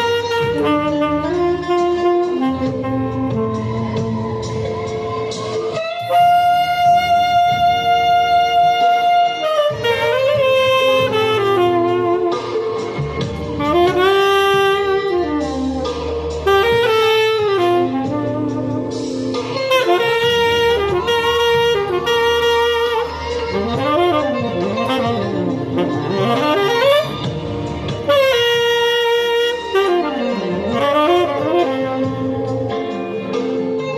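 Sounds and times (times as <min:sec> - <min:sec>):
live band playing: 0:00.0 - 0:33.9
tenor saxophone solo: 0:00.0 - 0:33.9.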